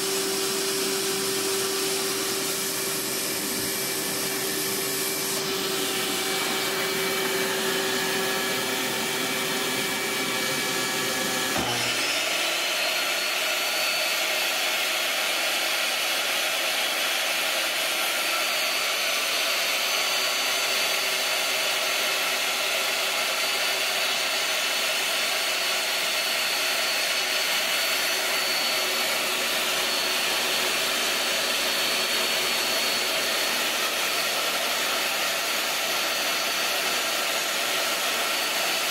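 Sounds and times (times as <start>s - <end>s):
shop vacuum running: 0.0s - 38.9s
table saw motor whine: 0.0s - 38.9s.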